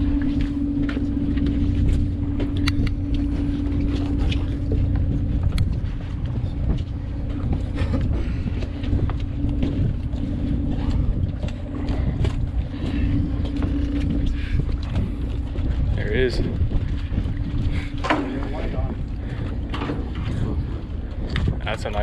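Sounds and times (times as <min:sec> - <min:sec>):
boat machinery rumbling: 0:00.0 - 0:22.0.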